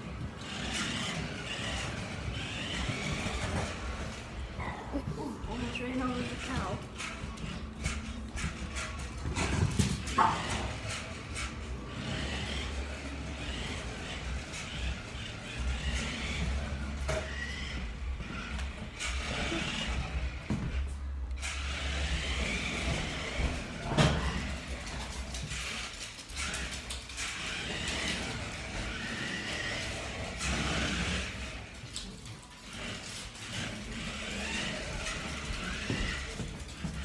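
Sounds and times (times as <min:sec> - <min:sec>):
toy car electric motor whirring: 0:00.0 - 0:37.0.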